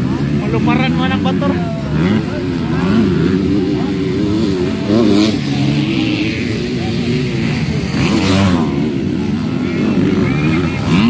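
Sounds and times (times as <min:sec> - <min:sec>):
motocross engines revving: 0:00.0 - 0:11.0
motorbike passing close by: 0:00.0 - 0:11.0.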